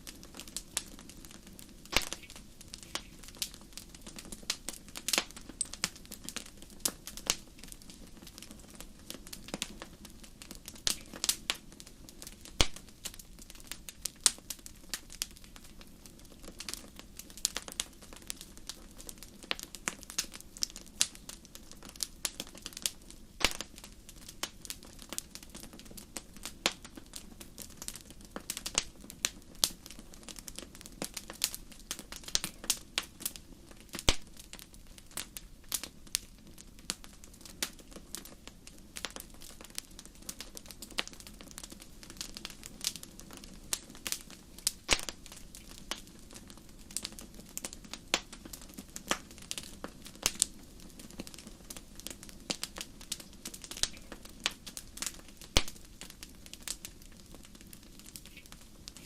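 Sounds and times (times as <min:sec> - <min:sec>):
low rumble of fire: 0:00.0 - 0:59.0
wood fire crackling and popping: 0:00.0 - 0:59.0.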